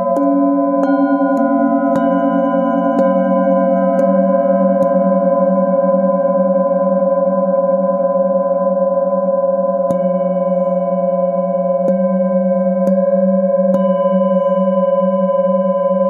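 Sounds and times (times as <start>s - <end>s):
singing bowl struck with mallet: 0.0s - 7.4s, 9.7s - 16.0s
singing bowl ringing hum: 0.0s - 16.0s.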